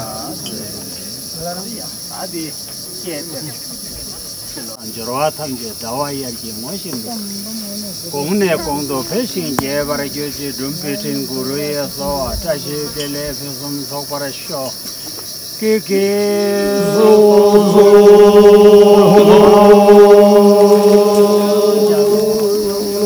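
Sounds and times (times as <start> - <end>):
high-pitched insect drone: 0.0 - 23.0
voices chanting: 0.0 - 23.0.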